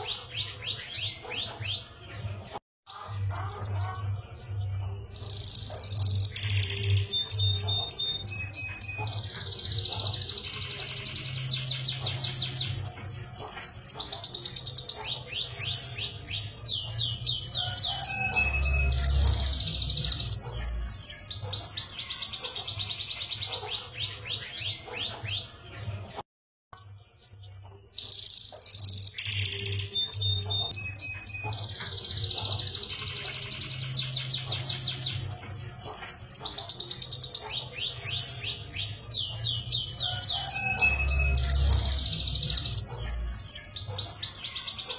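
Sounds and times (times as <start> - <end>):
canary singing trills: 0.0 - 25.9, 26.8 - 44.9.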